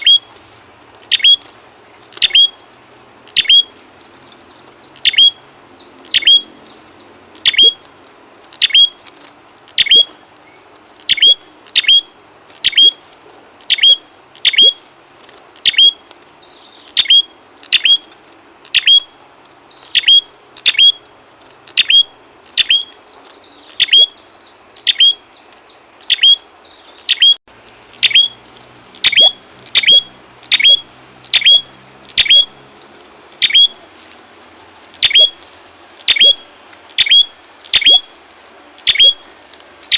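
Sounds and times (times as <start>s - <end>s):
bird chirping: 0.0s - 0.4s, 1.0s - 2.7s, 3.3s - 7.9s, 8.6s - 9.0s, 9.7s - 13.0s, 13.6s - 14.8s, 15.6s - 18.1s, 18.7s - 28.4s, 29.0s - 32.6s, 33.3s - 33.8s, 34.9s - 38.2s, 38.8s - 39.9s.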